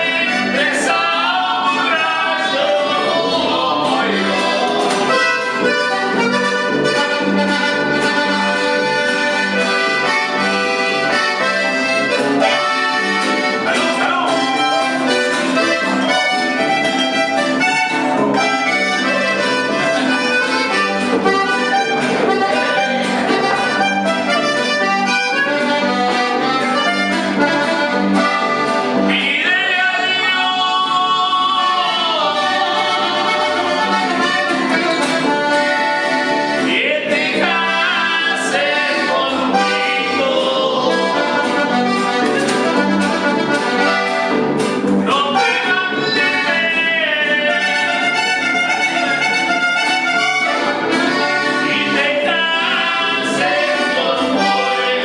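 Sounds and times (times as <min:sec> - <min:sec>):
button accordion melody: 0:00.0 - 0:55.0
electric bass: 0:00.0 - 0:55.0
guitar: 0:00.0 - 0:55.0.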